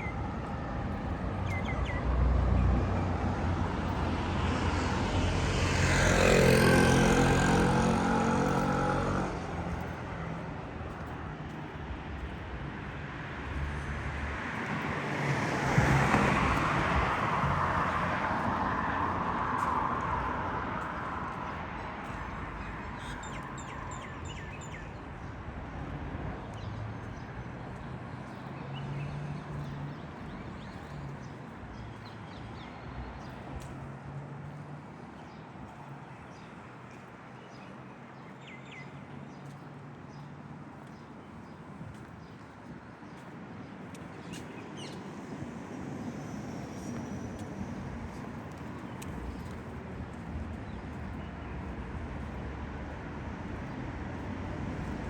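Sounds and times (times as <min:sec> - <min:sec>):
vehicle engine hum passing: 0:00.0 - 0:37.2, 0:43.2 - 0:55.0
low rumble of traffic: 0:00.0 - 0:55.0
tyre noise of passing vehicle: 0:00.0 - 0:55.0.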